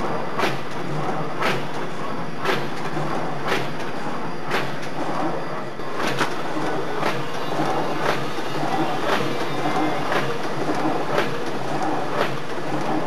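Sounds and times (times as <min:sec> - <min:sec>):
machine clattering: 0:00.0 - 0:13.0
machine clunking: 0:00.0 - 0:13.0.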